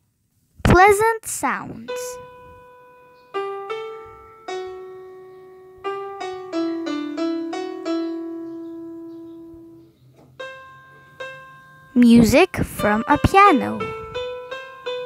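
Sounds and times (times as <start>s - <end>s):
electronic keyboard piano melody: 1.8s - 15.0s.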